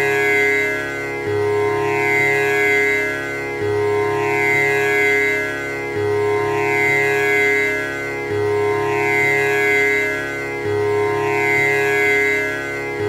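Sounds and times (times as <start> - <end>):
tanpura drone: 0.0 - 13.0.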